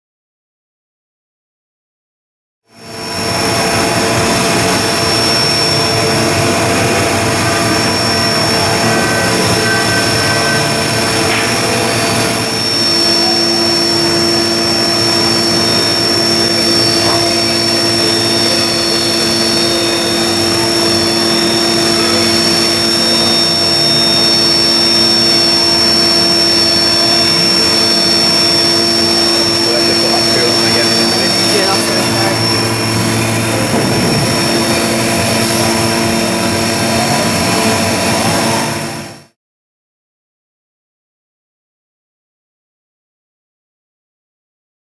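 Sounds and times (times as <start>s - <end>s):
low machine hum: 2.7s - 39.3s
machining centre whirring: 2.7s - 39.4s.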